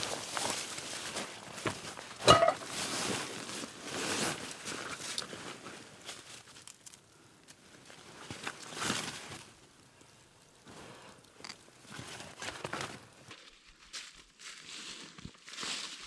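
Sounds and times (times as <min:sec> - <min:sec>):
crinkling and rustling handling noise: 0:00.0 - 0:13.4.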